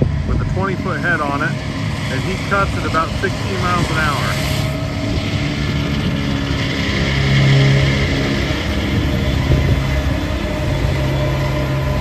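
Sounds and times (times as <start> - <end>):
swather engine drone: 0.0 - 12.0.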